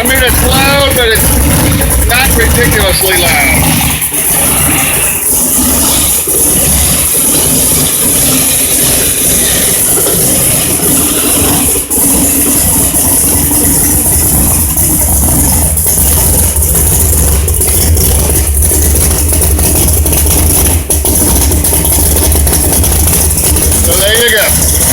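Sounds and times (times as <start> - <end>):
supercharged engine idling: 0.0 - 24.9.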